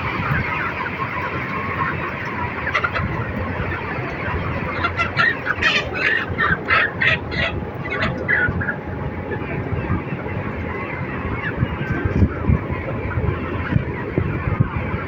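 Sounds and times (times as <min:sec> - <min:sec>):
poultry flock chattering: 0:00.0 - 0:15.0
repeated bird calls: 0:00.2 - 0:14.9.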